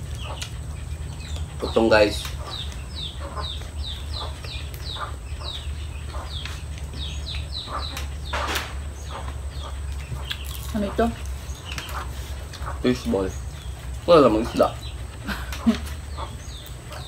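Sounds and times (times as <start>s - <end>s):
chickens peeping: 0.0s - 17.0s
steady low hum: 0.0s - 17.0s.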